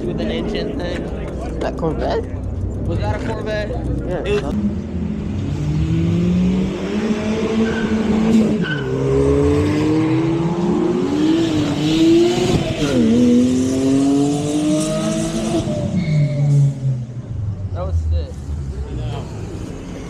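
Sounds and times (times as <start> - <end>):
sports cars accelerating: 0.0 - 20.0.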